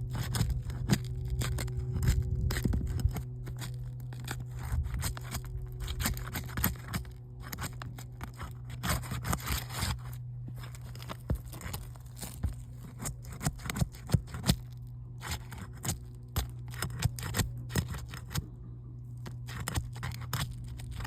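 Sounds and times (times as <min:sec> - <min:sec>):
shingles scraping and tearing: 0:00.0 - 0:18.4, 0:19.1 - 0:21.0
steady low hum: 0:00.0 - 0:21.0.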